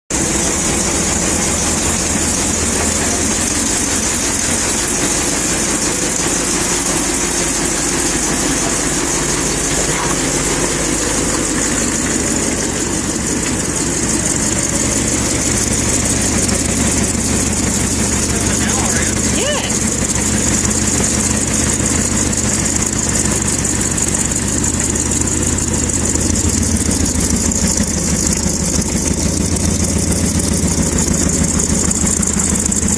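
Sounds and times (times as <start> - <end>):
truck engine idling: 0.1 - 32.9.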